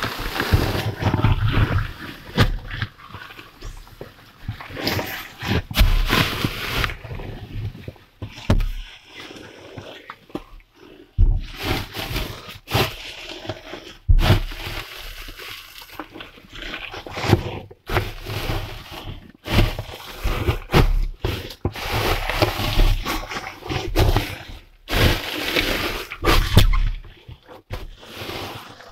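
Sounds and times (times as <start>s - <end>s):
plastic bags rustling: 0.0s - 9.8s, 10.8s - 28.9s.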